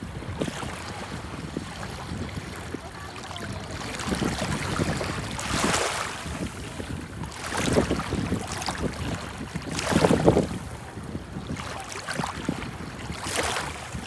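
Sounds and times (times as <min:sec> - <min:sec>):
waves splashing: 0:00.0 - 0:14.0.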